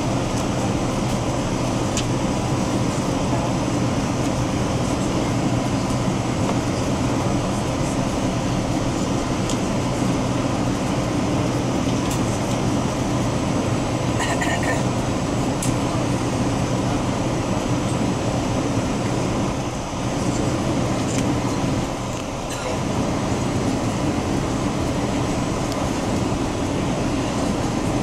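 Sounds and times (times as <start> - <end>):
jet cabin engine and airflow rumble: 0.0 - 28.0.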